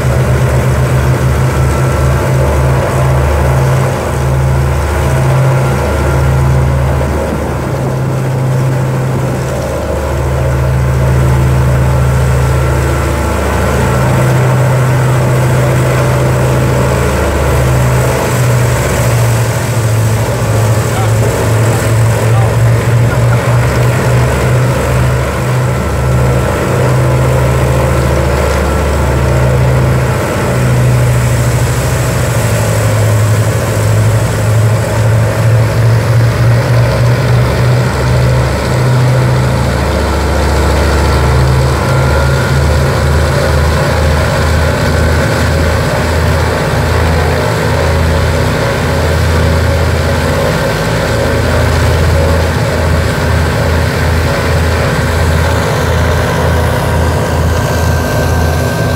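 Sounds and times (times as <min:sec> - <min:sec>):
aircraft radial engines idling: 0:00.0 - 0:58.9.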